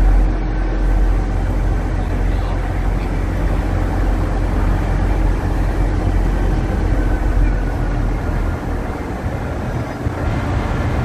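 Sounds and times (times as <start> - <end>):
heavy machinery engine rumble: 0.0 - 11.0.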